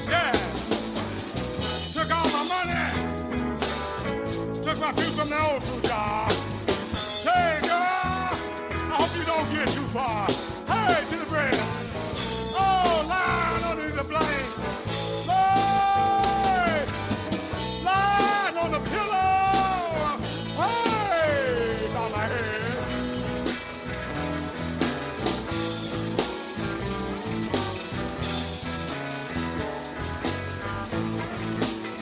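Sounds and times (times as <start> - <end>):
bass and drum groove: 0.0 - 32.0
blues lead guitar bent notes: 0.0 - 32.0.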